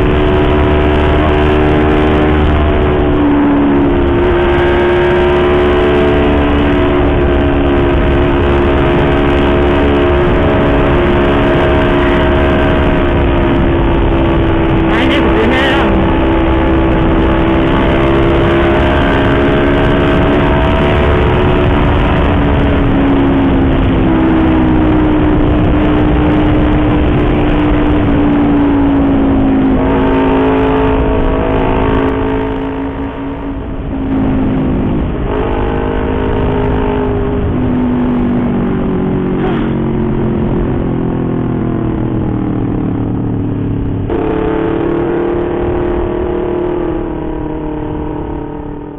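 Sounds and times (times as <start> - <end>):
motorcycle engine at speed: 0.0 - 48.9
wind rush: 0.0 - 48.9.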